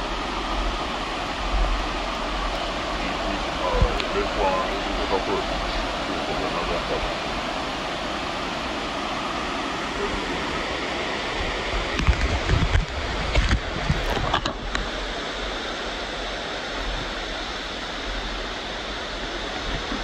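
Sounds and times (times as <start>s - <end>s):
falling and running water: 0.0s - 20.0s.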